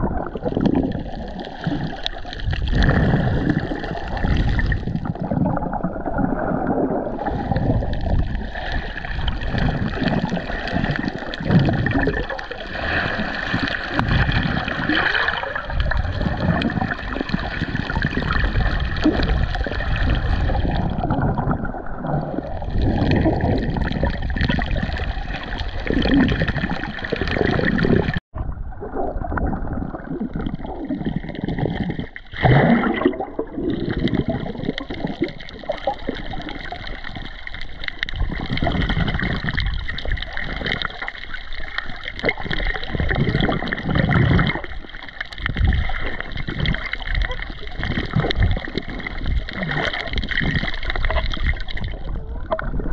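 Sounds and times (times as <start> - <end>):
water sloshing and gurgling: 0.0 - 52.9.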